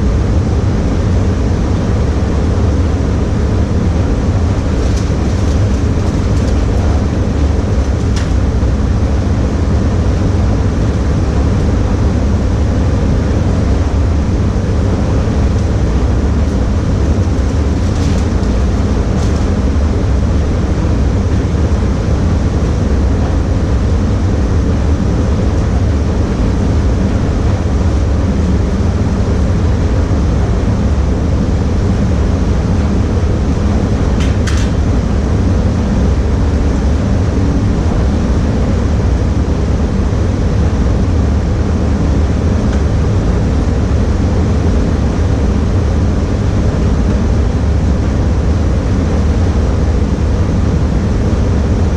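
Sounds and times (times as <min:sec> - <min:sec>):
ventilation rumble: 0:00.0 - 0:51.9.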